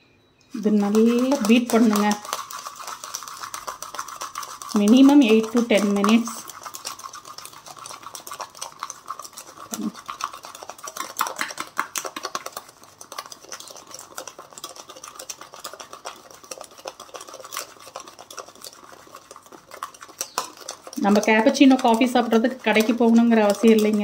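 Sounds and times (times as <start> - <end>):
spoon clicking and scraping mug: 0.4 - 24.0.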